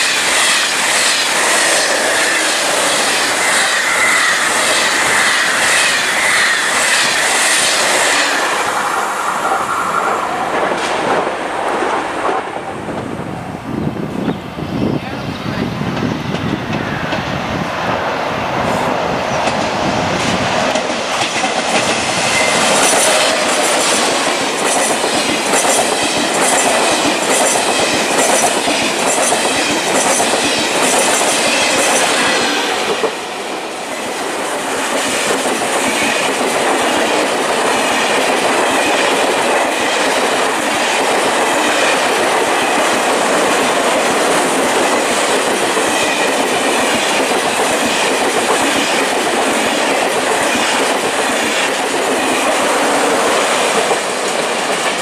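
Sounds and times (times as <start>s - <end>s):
wheels clickety-clack on rail joints: 0.0s - 13.1s, 15.5s - 17.4s, 19.3s - 55.0s
train passing at speed: 0.0s - 55.0s.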